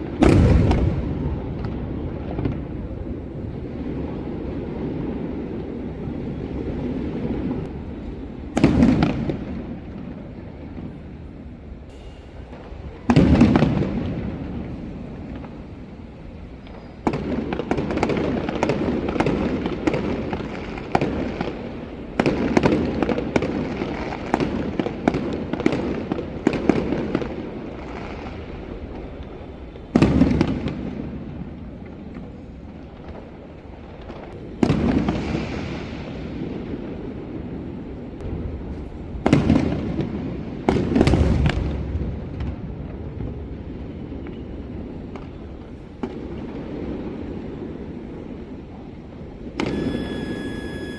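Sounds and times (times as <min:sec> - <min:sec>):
fireworks booms with echoes: 0:00.0 - 0:48.5, 0:49.4 - 0:50.9
fireworks crackling bangs: 0:00.0 - 0:50.9.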